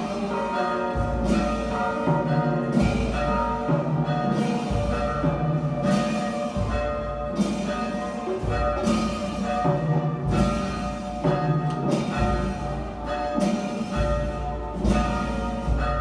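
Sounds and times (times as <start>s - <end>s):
heavy low church bell tolling: 0.0s - 16.0s
higher bell strikes: 0.0s - 16.0s.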